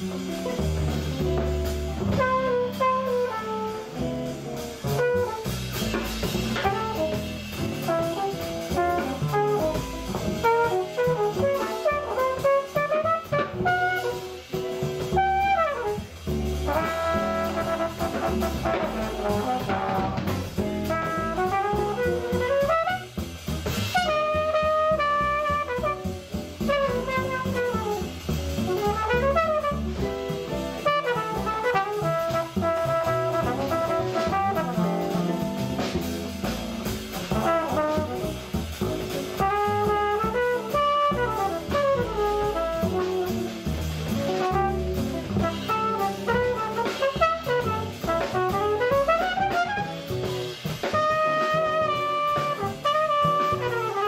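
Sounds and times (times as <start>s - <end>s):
double bass: 0.0s - 54.0s
drum kit: 0.0s - 54.0s
trumpet solo: 0.4s - 54.0s.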